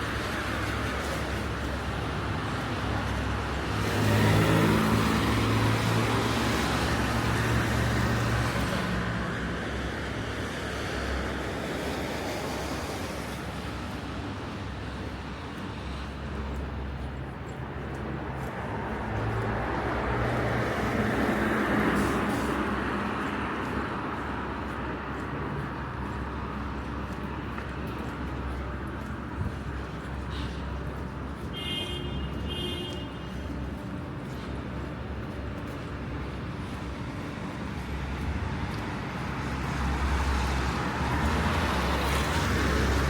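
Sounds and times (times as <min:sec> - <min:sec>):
cars passing on a street: 0:00.0 - 0:43.0.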